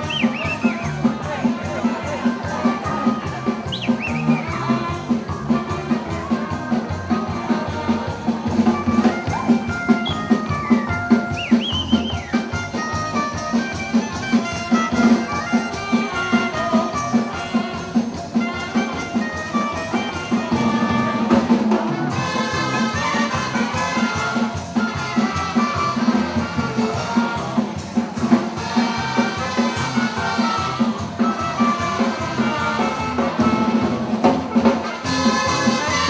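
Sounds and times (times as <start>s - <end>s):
brass and clarinet melody: 0.0s - 36.0s
live dance band playing: 0.0s - 36.0s
steady drum beat: 0.0s - 36.0s.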